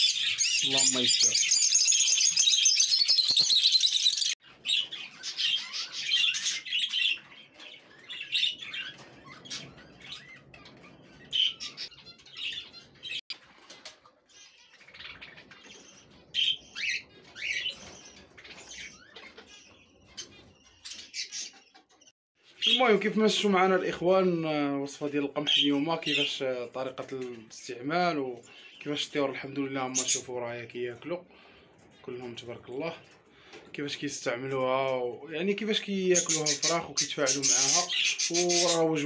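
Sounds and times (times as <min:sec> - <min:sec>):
budgerigars chirping and chattering: 0:00.0 - 0:39.0.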